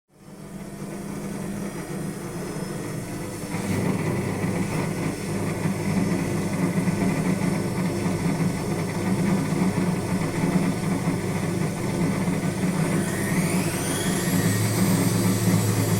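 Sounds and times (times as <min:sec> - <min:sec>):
washing machine humming: 0:00.1 - 0:15.9.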